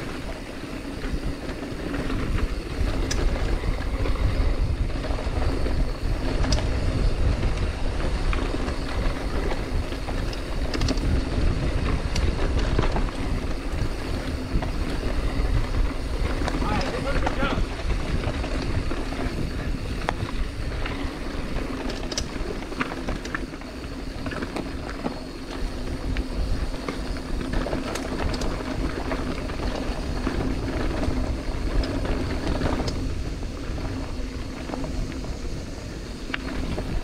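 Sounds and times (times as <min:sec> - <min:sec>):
bike clicks and rattles: 0:00.0 - 0:37.0
wind and tyre rumble: 0:00.0 - 0:37.0.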